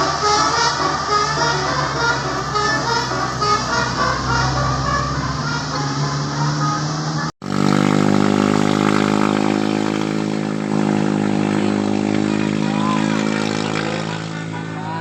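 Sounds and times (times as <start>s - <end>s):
diesel bus engine running: 0.0s - 15.0s
vehicle noise: 0.0s - 15.0s.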